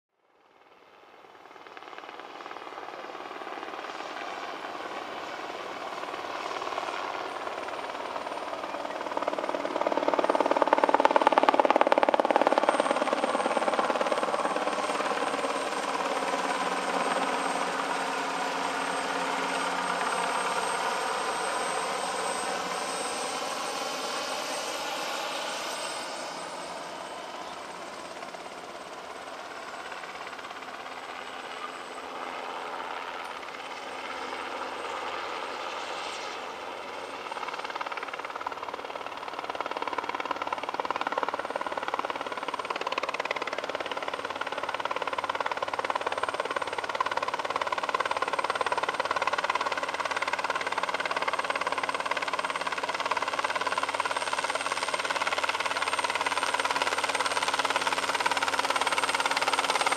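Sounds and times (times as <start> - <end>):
helicopter flying past: 0.2 - 59.9.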